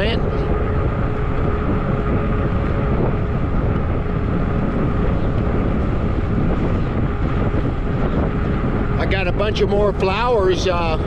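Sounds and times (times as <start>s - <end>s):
tires rolling on pavement: 0.0s - 11.0s
wind on microphone: 0.0s - 11.0s.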